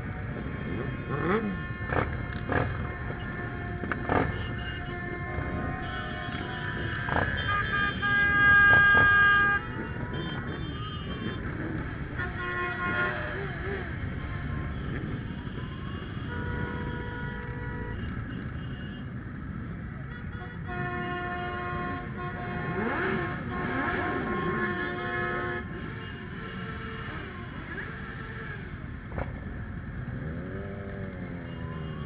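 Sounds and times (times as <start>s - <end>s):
horns tooting: 0.0s - 32.0s
motorcycle engines rumbling: 0.0s - 32.0s.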